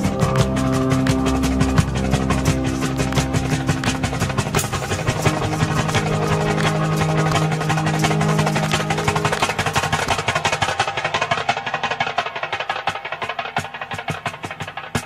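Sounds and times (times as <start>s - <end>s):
background music with percussive beat: 0.0s - 15.0s.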